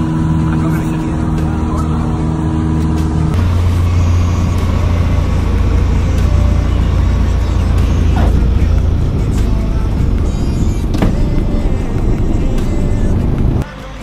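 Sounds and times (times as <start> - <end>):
aircraft engine drone: 0.0 - 13.6
heavy low rumble: 0.0 - 13.6.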